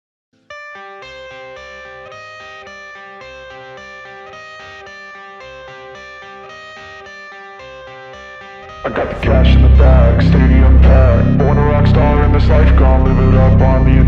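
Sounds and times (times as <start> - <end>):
picked guitar notes: 0.4 - 14.0.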